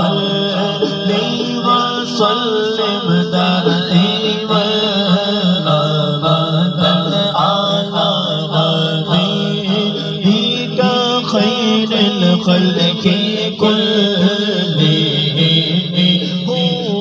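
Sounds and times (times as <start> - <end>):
low vocal drone: 0.0 - 17.0
man singing melodic line: 0.0 - 17.0.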